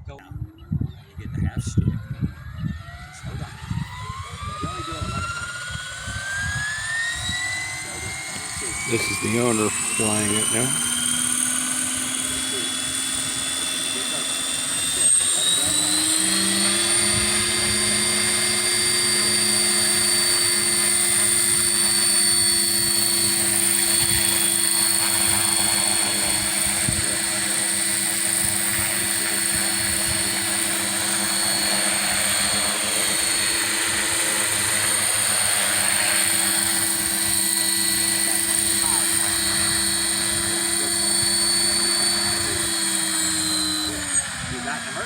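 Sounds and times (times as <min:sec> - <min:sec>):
model helicopter motor whine: 0:00.0 - 0:45.0.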